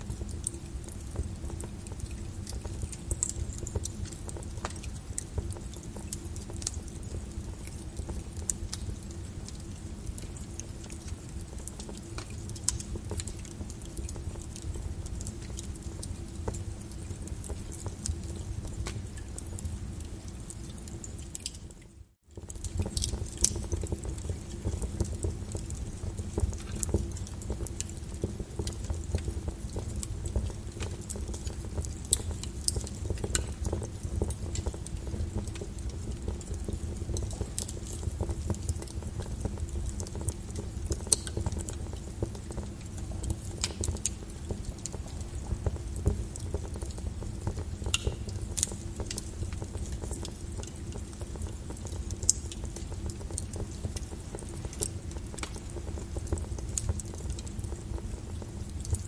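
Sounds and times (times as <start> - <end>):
rain on a window: 0.0 - 59.0
wood fire crackling and popping: 0.0 - 59.0.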